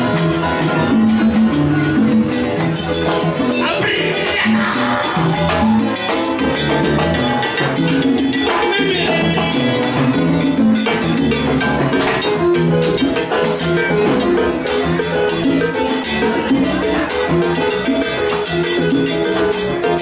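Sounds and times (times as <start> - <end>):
congas and percussion: 0.0 - 20.0.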